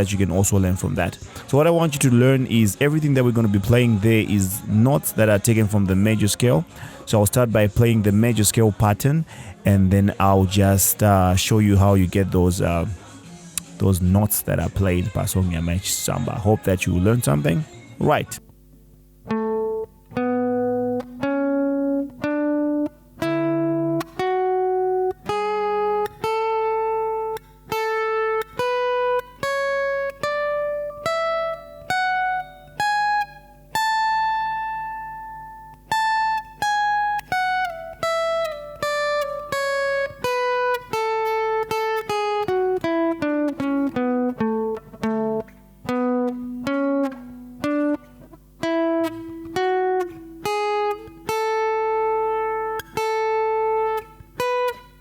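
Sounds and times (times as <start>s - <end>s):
guitar playing a scale: 0.0s - 55.0s.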